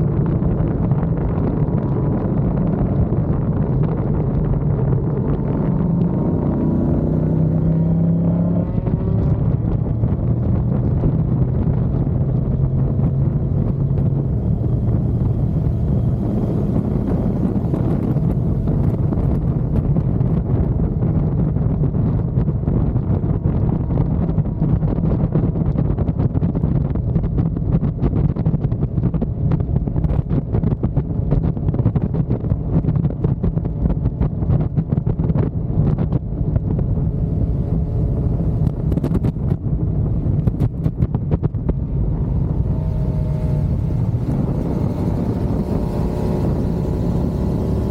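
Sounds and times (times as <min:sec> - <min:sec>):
motorcycle engine hum: 0:00.0 - 0:47.9
wind buffeting microphone: 0:00.0 - 0:47.9.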